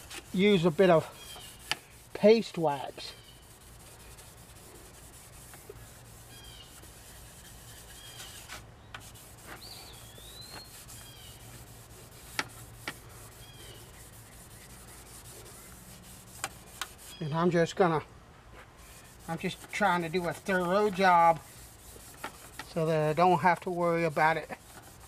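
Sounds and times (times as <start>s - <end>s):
steel wool rubbing on metal: 0.0s - 17.5s, 18.8s - 25.0s.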